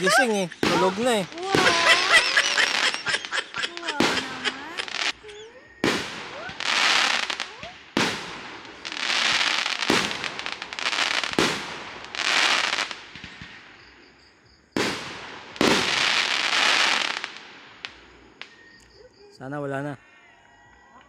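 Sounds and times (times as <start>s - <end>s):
fireworks bangs: 0.0s - 18.7s
fireworks crackling hiss: 0.0s - 18.7s.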